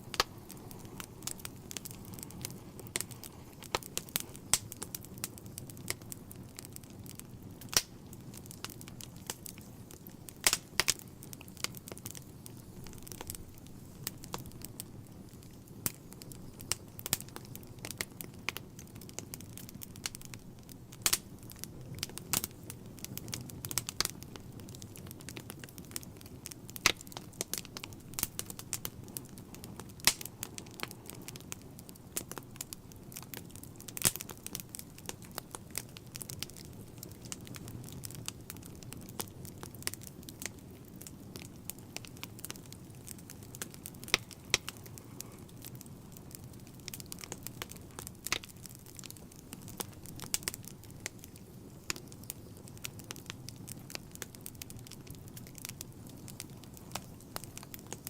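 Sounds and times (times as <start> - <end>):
log fire crackling: 0.0 - 58.0.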